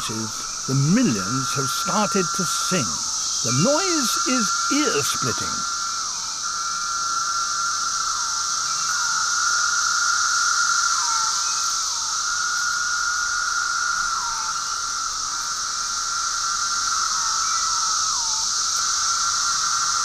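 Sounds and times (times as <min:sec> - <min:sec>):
cicada chorus drone: 0:00.0 - 0:20.0
single cicada calls slurring downward: 0:00.0 - 0:20.0.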